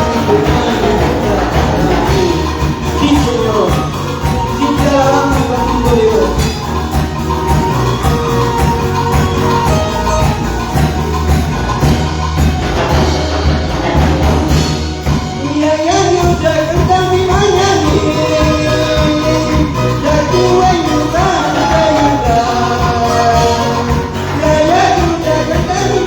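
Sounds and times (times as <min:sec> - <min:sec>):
live band playing latin music: 0:00.0 - 0:26.0.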